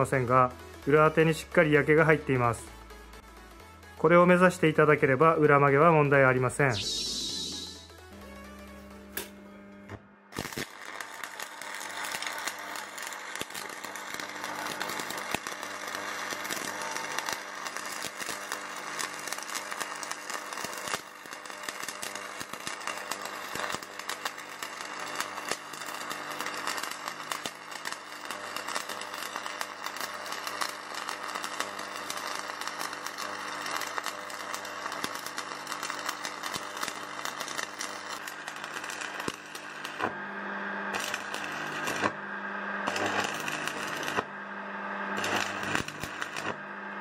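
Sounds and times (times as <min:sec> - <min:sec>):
welding arc crackling: 0:04.0 - 0:08.2, 0:08.9 - 0:47.0.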